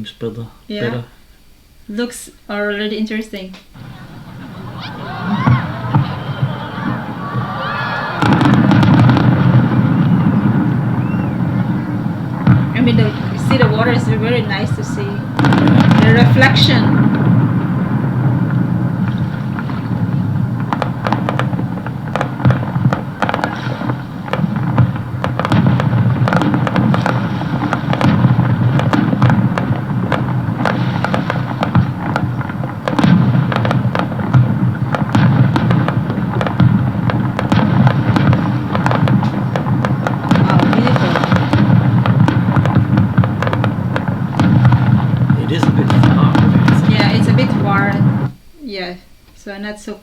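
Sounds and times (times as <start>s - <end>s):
low rumble of firework bursts: 0.0s - 49.8s
fireworks popping and crackling: 0.7s - 1.1s, 3.0s - 48.5s.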